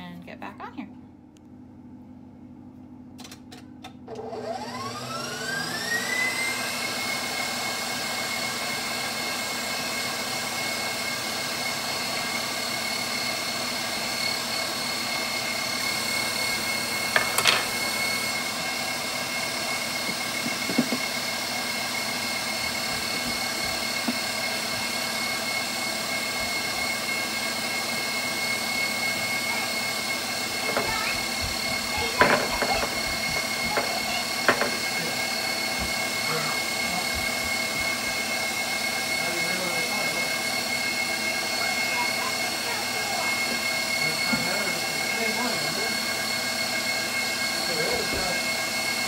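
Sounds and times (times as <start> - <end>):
stand mixer motor whining: 3.9 - 49.0.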